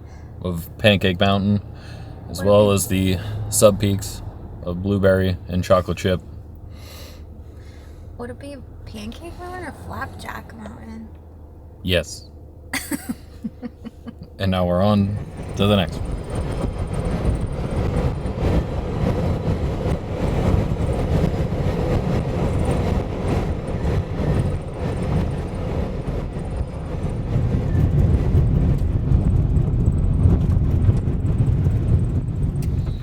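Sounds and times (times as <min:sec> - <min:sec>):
vehicle road noise rumble: 0:00.0 - 0:33.0.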